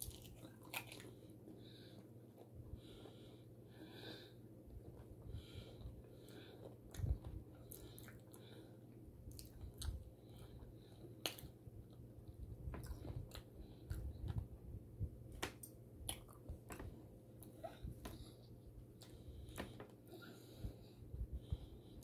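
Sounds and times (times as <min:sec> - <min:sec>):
person chewing food: 0:00.0 - 0:03.4, 0:04.1 - 0:14.5, 0:15.4 - 0:20.8.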